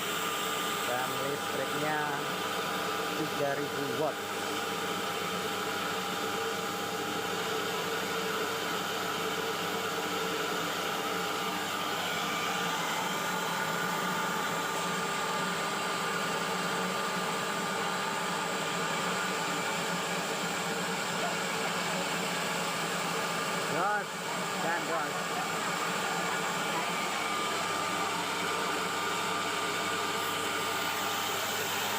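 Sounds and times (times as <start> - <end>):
rice huller motor whirring: 0.0 - 31.9.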